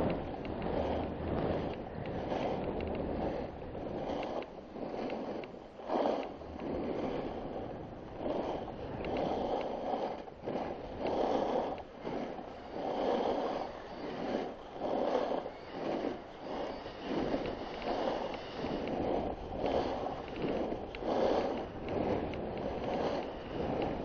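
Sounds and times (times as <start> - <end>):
snowboard scraping on snow: 0.0 - 24.0.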